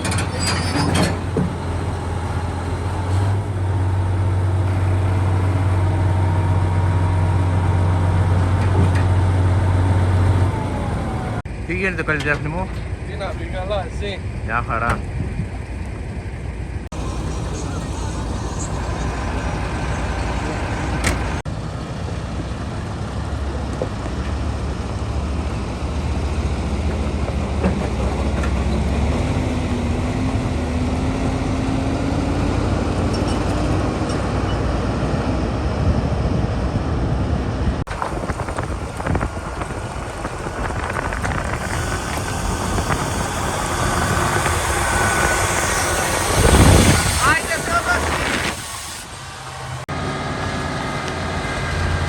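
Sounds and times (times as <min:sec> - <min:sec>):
diesel engine revving: 0:00.0 - 0:52.0.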